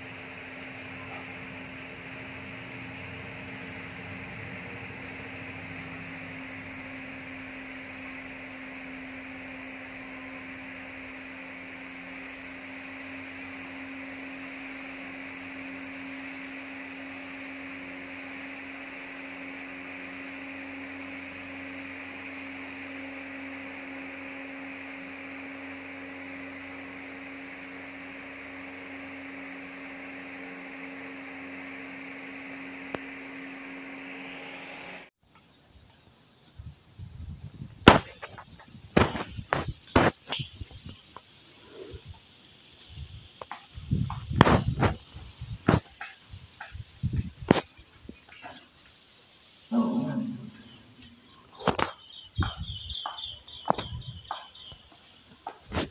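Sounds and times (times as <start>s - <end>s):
electrical hum with hiss: 0.0s - 35.1s, 38.8s - 55.9s.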